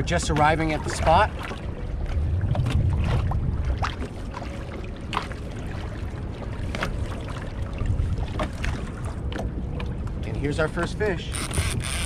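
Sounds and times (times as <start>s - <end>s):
water splashing against kayak hull: 0.0s - 12.0s
wind rumble on microphone: 0.0s - 12.0s.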